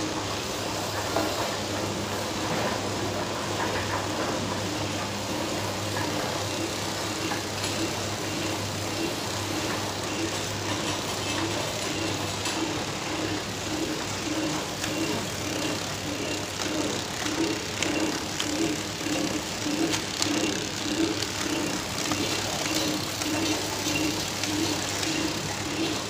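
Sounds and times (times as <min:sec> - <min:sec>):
packing machine humming: 0:00.0 - 0:26.0.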